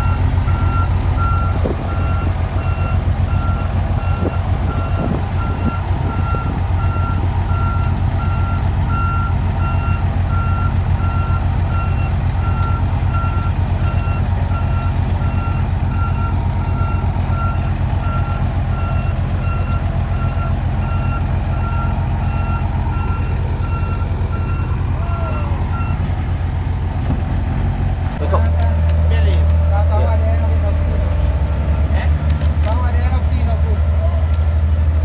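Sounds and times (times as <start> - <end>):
reversing alarm beeping: 0.0 - 28.5
heavy vehicle engine running: 0.0 - 35.0.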